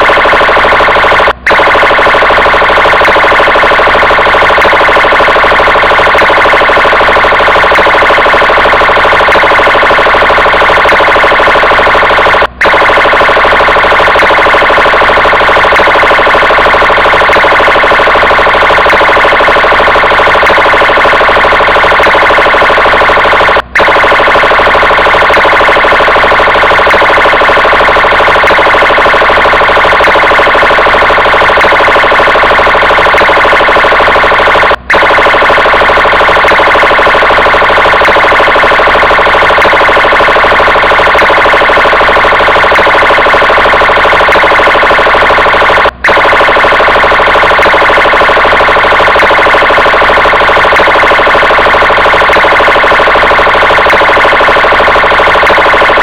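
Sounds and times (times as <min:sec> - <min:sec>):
police siren: 0:00.0 - 0:56.0.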